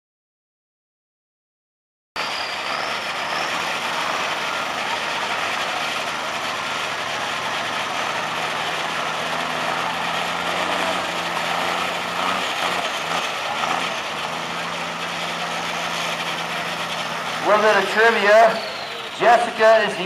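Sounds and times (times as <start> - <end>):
truck engine clattering: 2.2 - 20.0.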